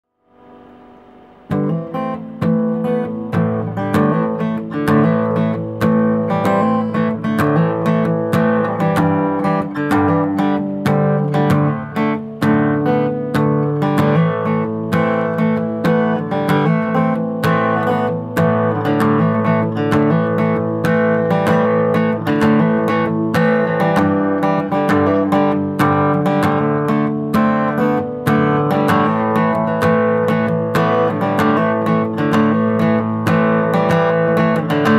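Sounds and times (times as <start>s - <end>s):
acoustic guitar picking and strumming: 0.2s - 34.9s.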